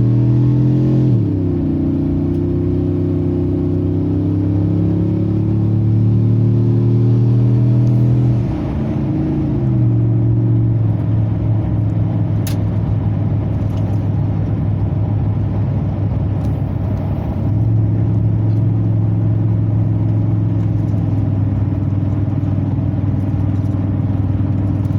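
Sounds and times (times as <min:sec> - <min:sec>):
truck engine drone inside cab: 0:00.0 - 0:24.9.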